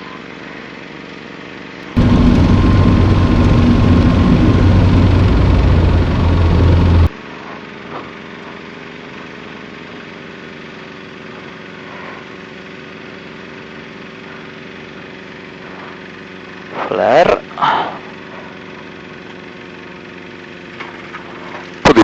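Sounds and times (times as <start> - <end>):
light aircraft engine and propeller: 0.0 - 22.0.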